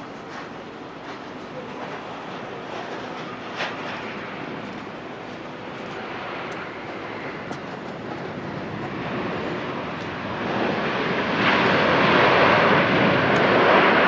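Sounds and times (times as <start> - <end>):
jet airliner engines rushing: 0.0 - 14.0.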